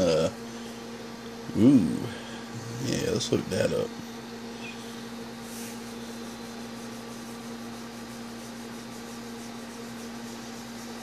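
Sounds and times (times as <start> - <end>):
power supply humming: 0.0 - 11.0.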